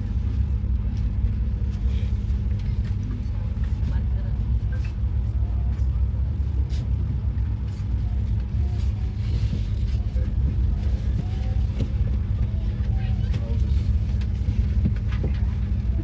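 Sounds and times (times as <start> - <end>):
faint passenger voices: 0.0 - 16.0
train rumble from inside coach: 0.0 - 16.0.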